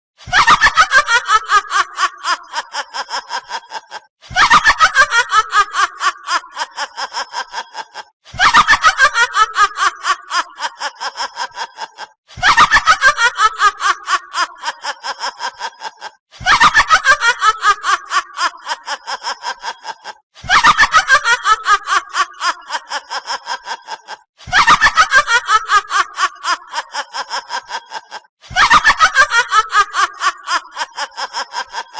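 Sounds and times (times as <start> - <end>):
witch cackling laugh: 0.2 - 31.9.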